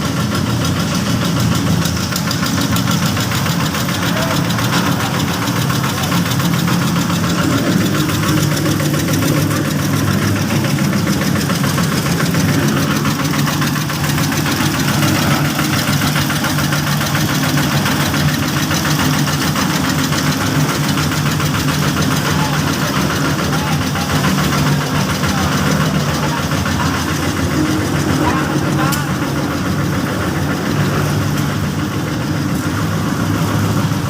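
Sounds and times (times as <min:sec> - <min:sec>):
small engine knocking: 0:00.0 - 0:34.0.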